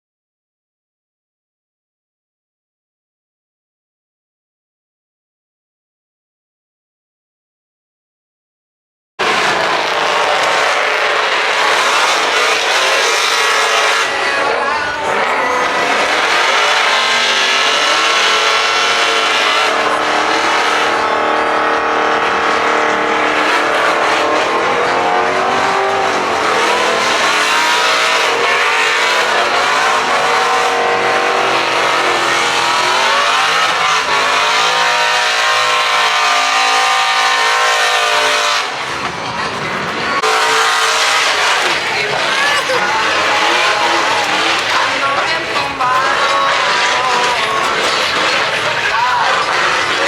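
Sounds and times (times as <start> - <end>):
rushing noise: 9.2 - 50.0
truck engines revving: 9.2 - 50.0.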